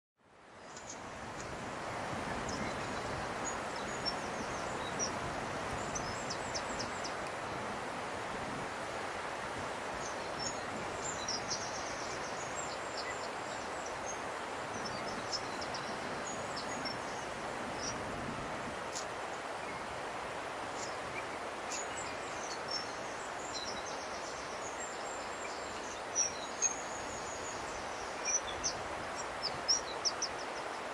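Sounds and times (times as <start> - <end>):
steady background hiss: 0.2 - 30.9
small birds chirping and trilling: 2.3 - 7.6, 9.9 - 18.0, 18.7 - 30.9.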